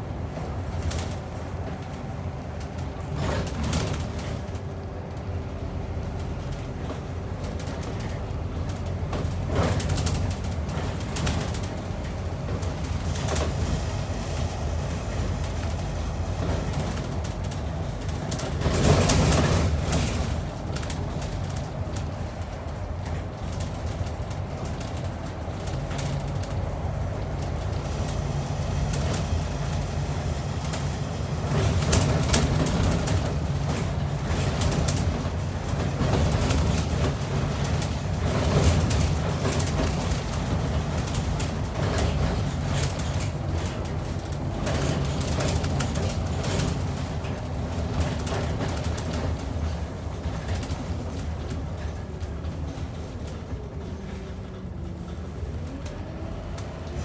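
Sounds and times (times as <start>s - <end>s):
bus engine and road noise rumble: 0.0s - 57.0s.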